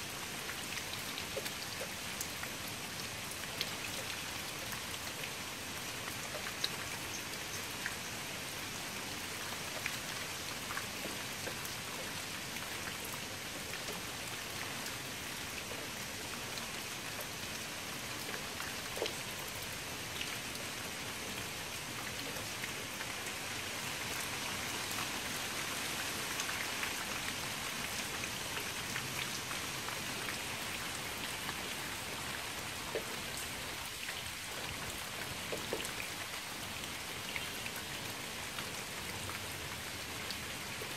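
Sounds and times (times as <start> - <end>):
rain falling on water: 0.0 - 40.9.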